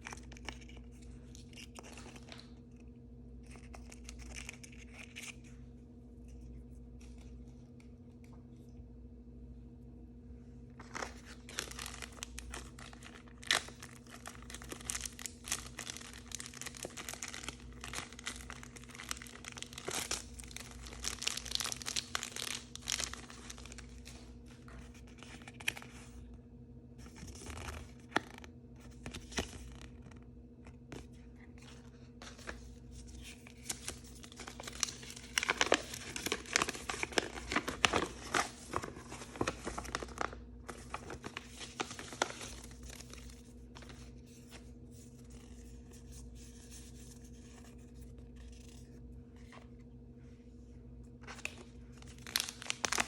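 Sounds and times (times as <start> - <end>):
plastic packaging crinkling: 0.0 - 5.5, 10.8 - 26.2, 27.0 - 49.8, 51.1 - 53.0.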